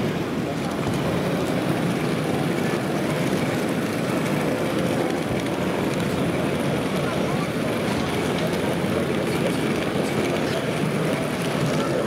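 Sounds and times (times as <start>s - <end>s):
general hall noise: 0.0s - 12.0s
many voices: 0.0s - 12.0s.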